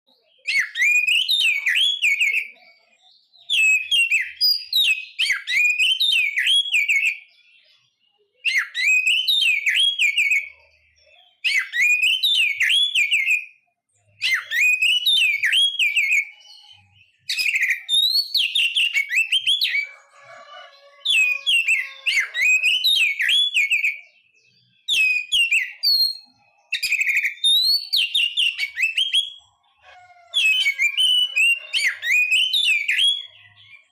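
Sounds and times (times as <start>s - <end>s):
songbird whistled song: 0.0s - 33.9s.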